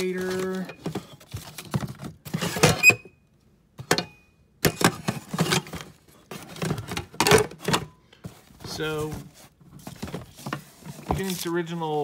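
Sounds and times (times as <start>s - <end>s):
objects clattering in cardboard box: 0.0s - 2.8s, 4.6s - 11.6s.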